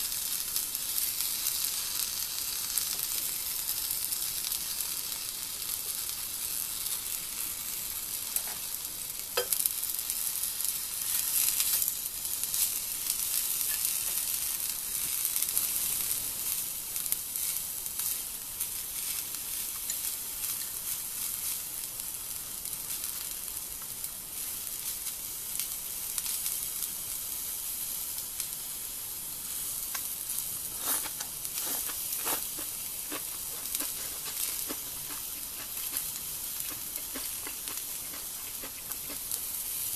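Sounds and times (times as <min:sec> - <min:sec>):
vegetables sizzling in a pan: 0:00.0 - 0:39.9.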